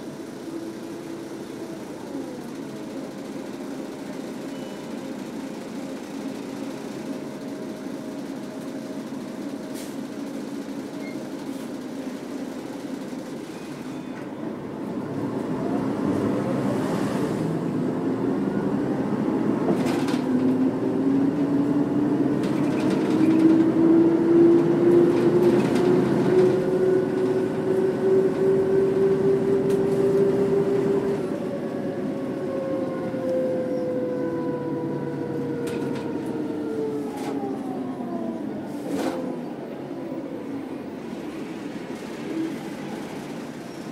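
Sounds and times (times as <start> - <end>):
diesel bus engine pulling away: 0.0 - 43.9.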